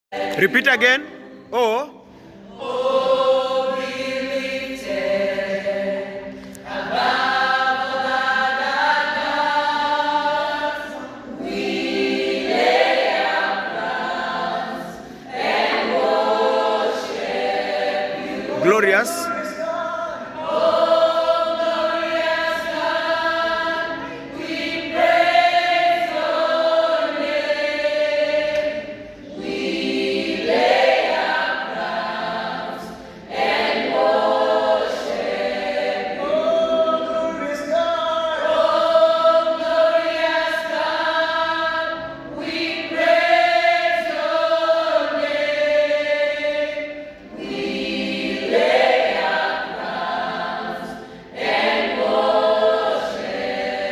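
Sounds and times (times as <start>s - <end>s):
choir singing a cappella: 0.1s - 53.9s.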